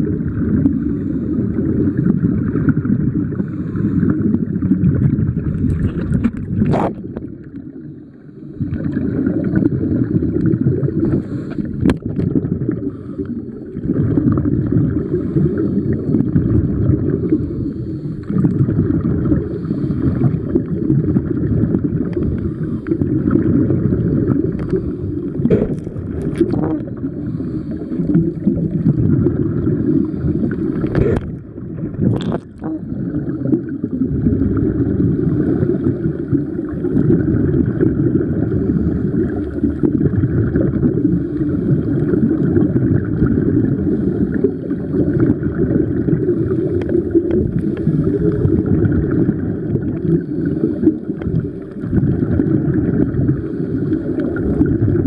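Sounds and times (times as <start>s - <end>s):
muffled underwater rumble: 0.0s - 55.0s.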